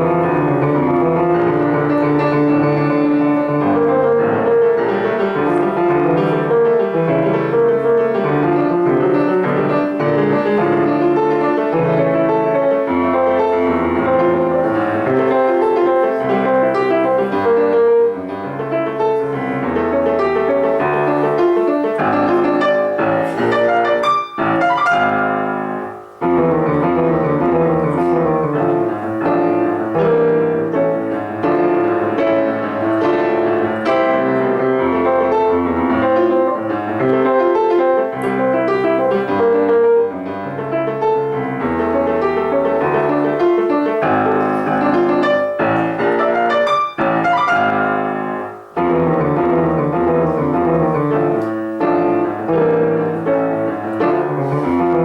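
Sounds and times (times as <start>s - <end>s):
solo classical piano: 0.0s - 55.0s.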